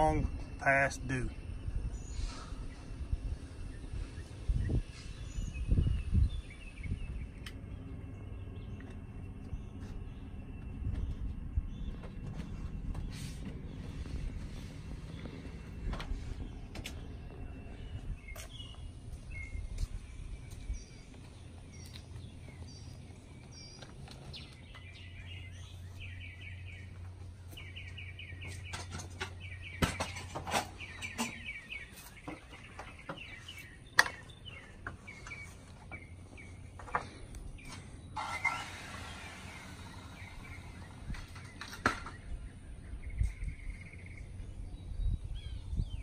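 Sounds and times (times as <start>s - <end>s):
birds chirping: 0.0s - 46.0s
steady low hum: 0.0s - 46.0s.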